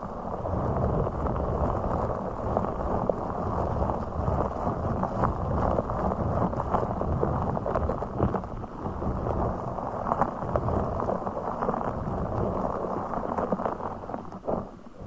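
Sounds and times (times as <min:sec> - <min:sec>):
muffled crackling and scratching: 0:00.0 - 0:15.0.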